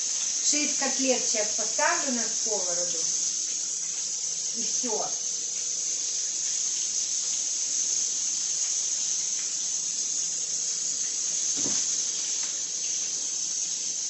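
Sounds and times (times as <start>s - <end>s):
patties sizzling in oil: 0.0s - 14.0s.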